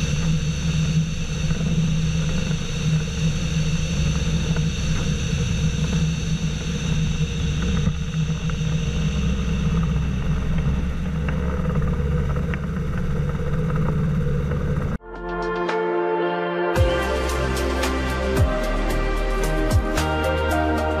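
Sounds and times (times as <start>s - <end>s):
engine and propeller droning: 0.0s - 15.7s, 16.4s - 21.0s.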